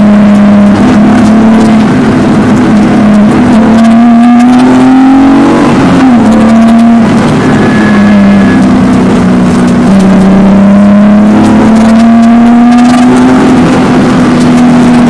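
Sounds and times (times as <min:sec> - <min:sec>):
rally car engine under load: 0:00.0 - 0:15.0.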